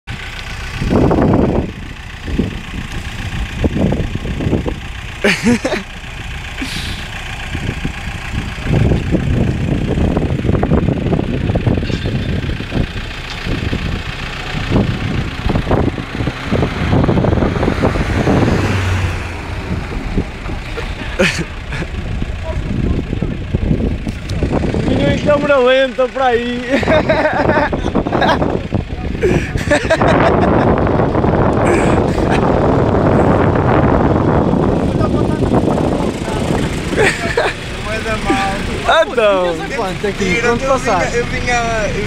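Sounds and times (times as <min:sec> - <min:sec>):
car engines revving and accelerating: 0:00.1 - 0:42.0.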